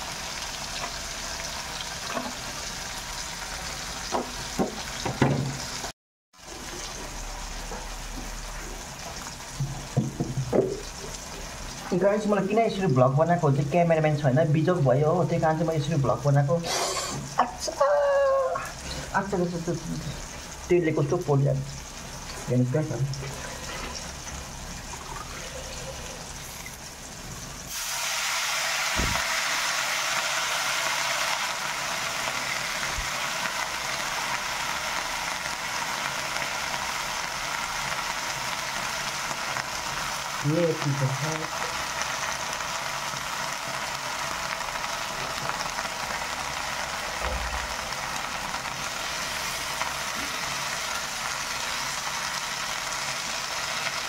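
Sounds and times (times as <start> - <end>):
greens sizzling in hot oil: 0.0 - 54.0.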